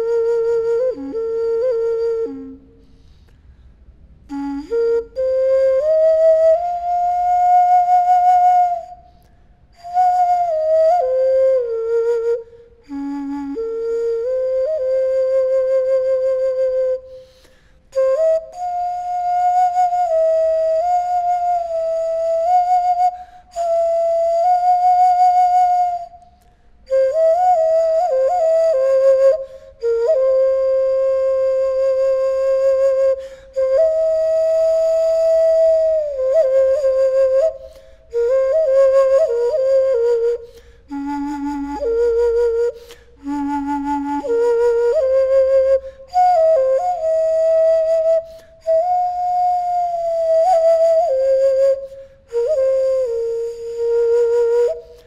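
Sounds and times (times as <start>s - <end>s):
flute playing: 0.0s - 3.2s, 4.3s - 55.0s.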